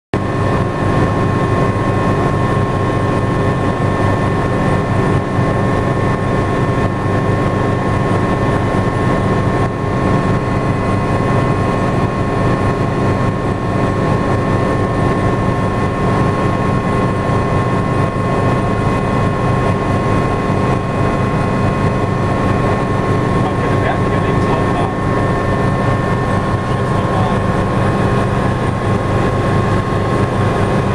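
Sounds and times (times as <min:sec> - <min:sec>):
helicopter engine and rotors droning: 0:00.2 - 0:30.9
high steady whine: 0:00.2 - 0:30.9.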